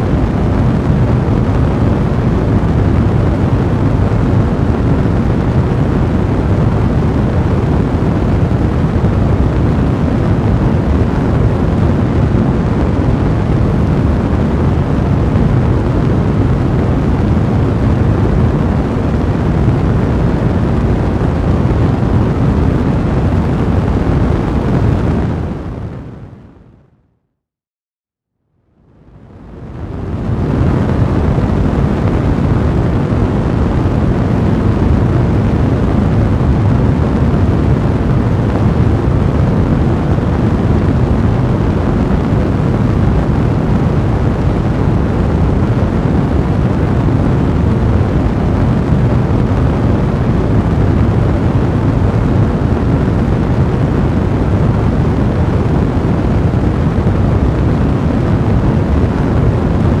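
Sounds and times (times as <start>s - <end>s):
fire blazing: 0.0s - 26.1s, 29.4s - 60.0s.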